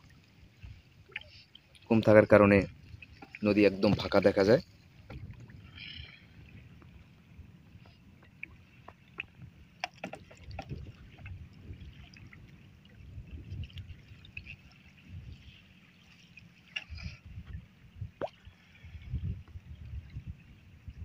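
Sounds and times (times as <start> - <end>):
water dripping and lapping: 0.0 - 20.3
wind rumble on microphone: 1.9 - 21.0.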